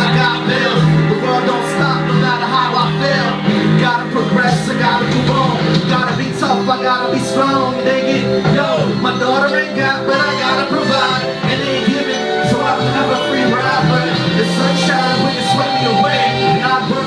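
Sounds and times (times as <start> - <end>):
live band music: 0.0 - 17.0
person singing: 0.0 - 17.0.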